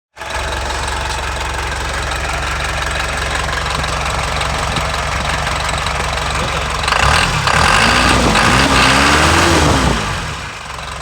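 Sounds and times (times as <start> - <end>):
diesel engine idling: 0.1 - 11.0.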